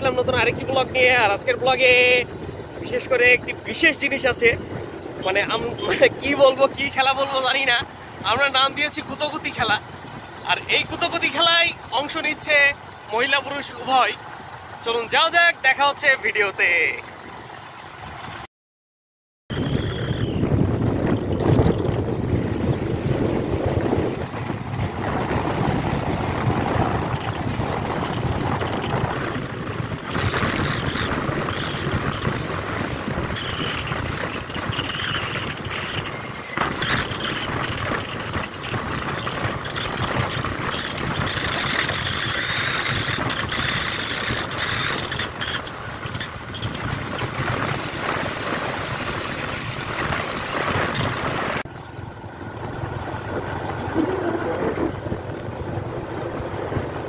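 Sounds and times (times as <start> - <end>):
wind rushing over microphone: 0.0 - 14.1, 19.5 - 57.0
motorcycle engine running: 0.0 - 18.4, 19.5 - 57.0.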